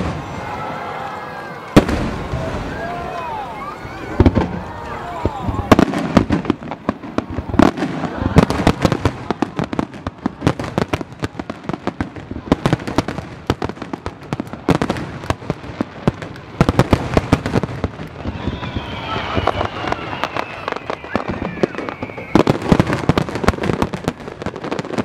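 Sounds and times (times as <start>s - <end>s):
loud firework booms: 0.0s - 0.5s, 1.8s - 3.2s, 4.0s - 25.0s
fireworks bangs and crackle: 0.0s - 25.0s.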